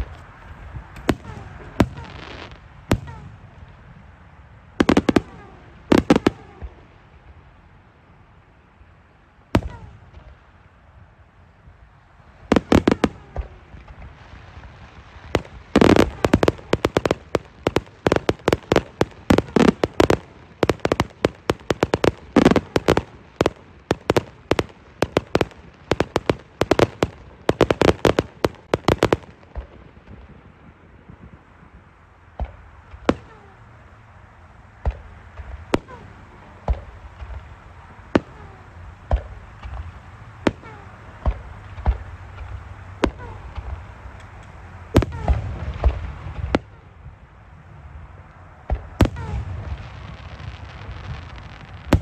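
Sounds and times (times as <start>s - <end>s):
fireworks banging: 0.0s - 7.4s, 9.5s - 10.5s, 12.3s - 33.6s, 34.8s - 47.2s, 48.2s - 52.0s.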